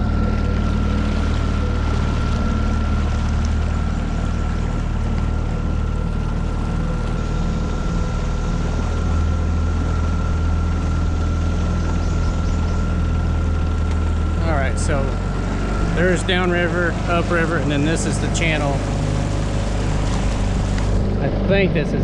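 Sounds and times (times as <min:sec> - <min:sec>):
high motor whine: 0:00.0 - 0:22.0
outboard motor droning: 0:00.0 - 0:22.0.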